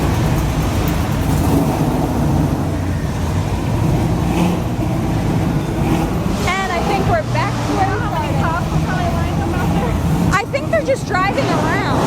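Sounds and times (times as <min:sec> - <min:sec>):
car engines driving slowly by: 0:00.0 - 0:12.0.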